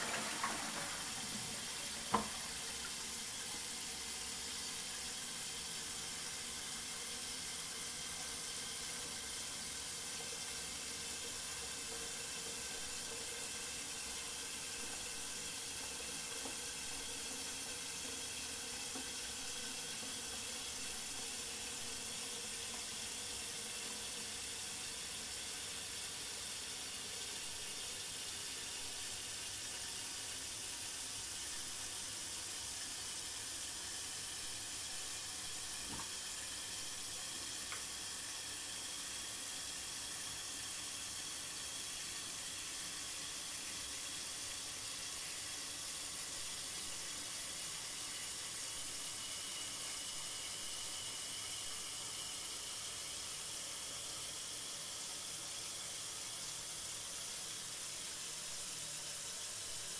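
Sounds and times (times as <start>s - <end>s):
water running into toilet cistern: 0.0s - 59.9s.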